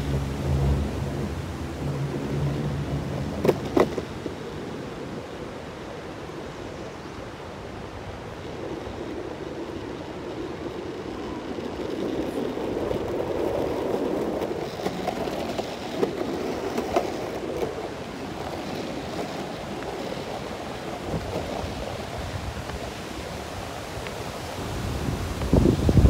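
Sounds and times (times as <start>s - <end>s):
longboard wheels rolling on asphalt: 0.0s - 26.0s.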